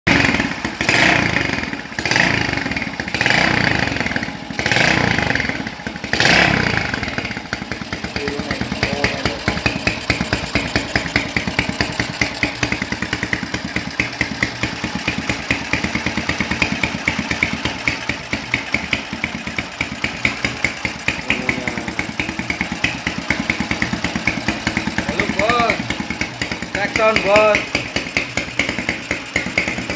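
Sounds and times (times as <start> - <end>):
motorcycle engine revving and idling: 0.0 - 29.9
exhaust popping: 0.1 - 29.9.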